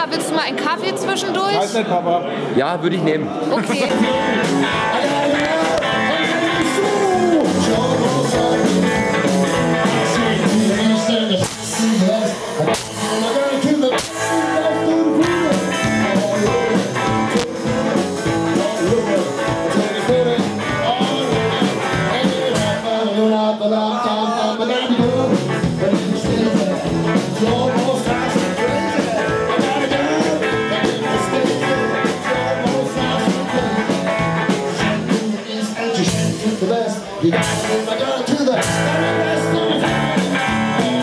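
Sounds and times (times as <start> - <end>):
live blues rock band: 3.4 - 41.0
man singing into a microphone: 3.5 - 41.0.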